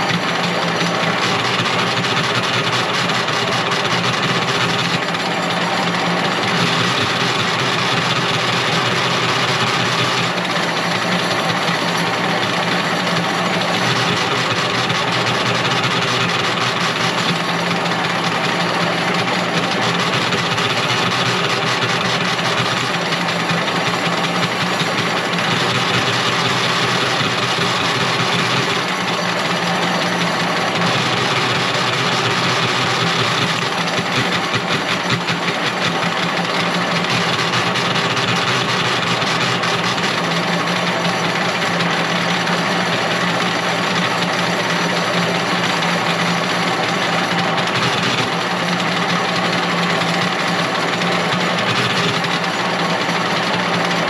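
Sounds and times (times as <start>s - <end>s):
machine motor droning: 0.0s - 54.0s.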